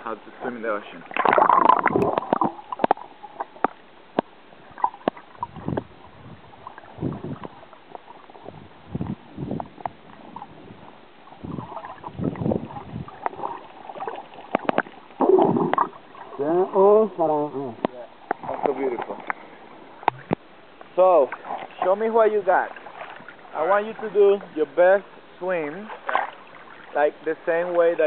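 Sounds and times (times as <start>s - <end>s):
ocean water sloshing and splashing: 0.0s - 17.2s, 17.8s - 28.0s.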